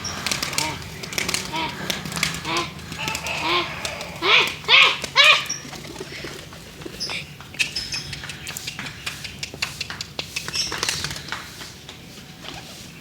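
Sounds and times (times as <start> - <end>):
short loud bird calls: 0.0 - 11.6
pigeon wings flapping: 0.0 - 13.0.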